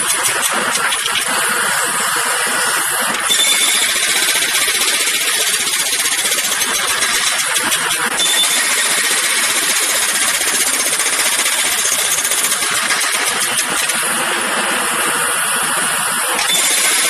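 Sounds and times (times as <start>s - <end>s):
jackhammer running: 0.0s - 17.0s.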